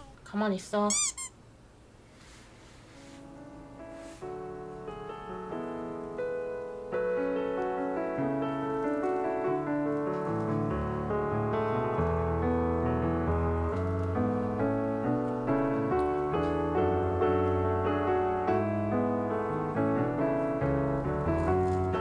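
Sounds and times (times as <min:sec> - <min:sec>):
piano music: 0:03.0 - 0:22.0.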